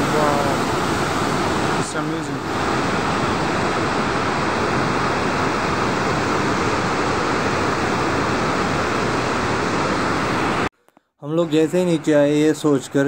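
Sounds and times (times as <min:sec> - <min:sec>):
stream rushing over boulders: 0:00.0 - 0:10.7.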